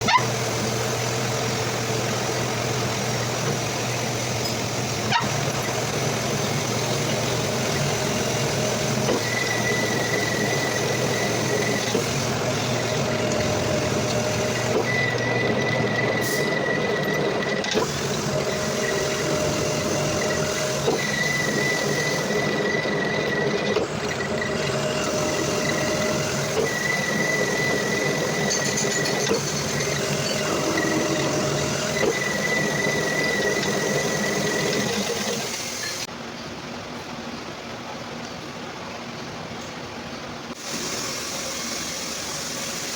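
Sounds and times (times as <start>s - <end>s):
metal lathe running: 0.0s - 36.1s, 40.6s - 42.9s.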